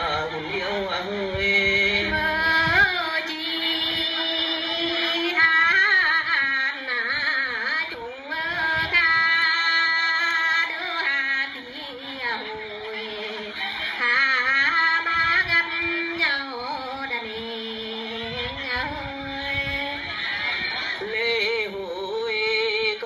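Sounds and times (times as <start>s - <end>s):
women singing slow song: 0.0s - 23.0s.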